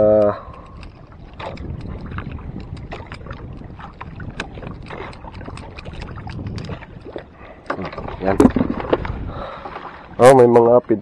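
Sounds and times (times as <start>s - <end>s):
water lapping against boat hull: 0.0s - 11.0s
wind on microphone: 0.0s - 11.0s
short sharp splashes and clicks: 0.1s - 10.0s.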